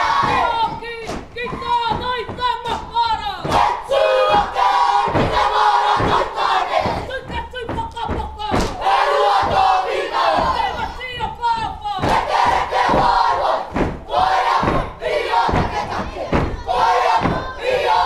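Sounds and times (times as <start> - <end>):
sharp stamps and slaps: 0.0 - 18.0
voices chanting and shouting: 0.0 - 18.0.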